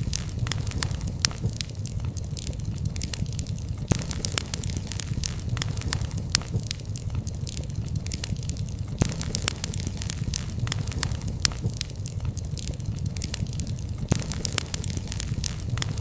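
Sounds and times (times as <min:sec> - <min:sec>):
fireplace fire crackling: 0:00.0 - 0:16.0
low rumble of flames: 0:00.0 - 0:16.0.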